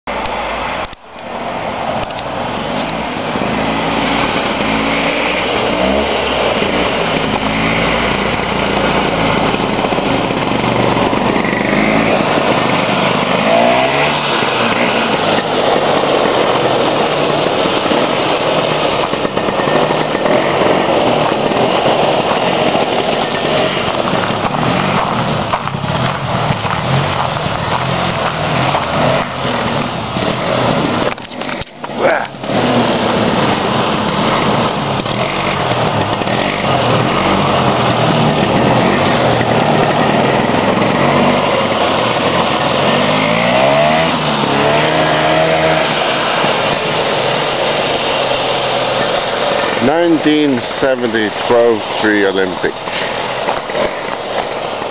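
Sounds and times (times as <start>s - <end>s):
snowmobile engine revving: 2.4s - 53.8s.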